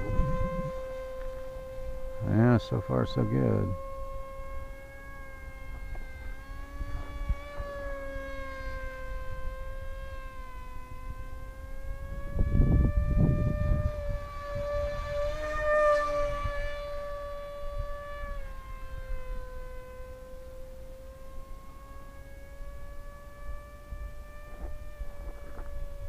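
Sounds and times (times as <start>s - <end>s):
wind buffeting microphone: 0.0s - 10.2s, 10.8s - 19.6s, 22.5s - 26.0s
electric motor and propeller whining: 0.0s - 26.0s.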